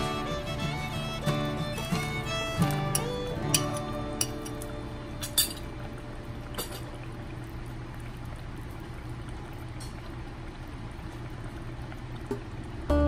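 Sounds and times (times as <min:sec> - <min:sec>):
sauce simmering with bubbling hiss: 0:00.0 - 0:13.0.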